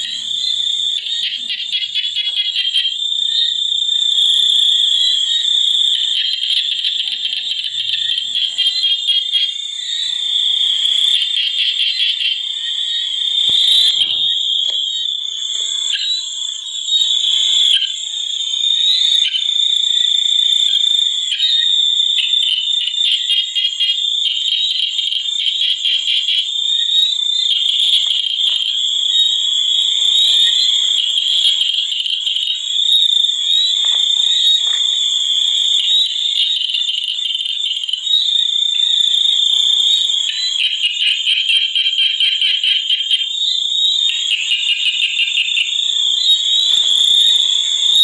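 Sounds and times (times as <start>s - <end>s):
frogs calling in chorus: 0.0s - 48.0s.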